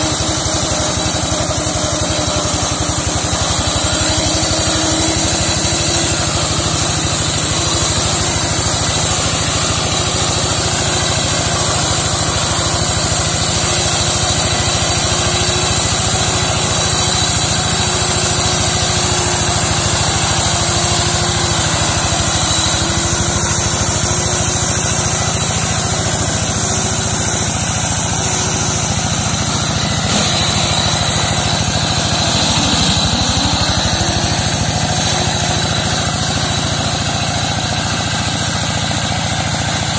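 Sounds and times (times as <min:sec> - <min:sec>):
hand tractor mower running: 0:00.0 - 0:39.9.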